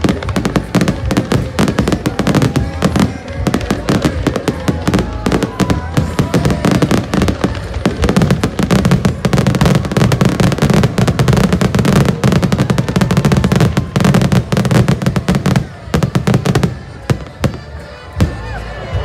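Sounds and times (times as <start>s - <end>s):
fireworks launches and bangs: 0.0s - 19.0s.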